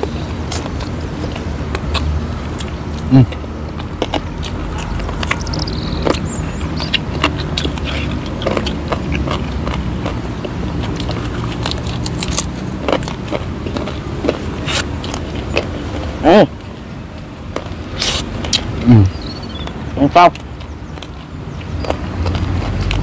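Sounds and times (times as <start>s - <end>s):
person chewing and biting food: 0.0s - 23.0s.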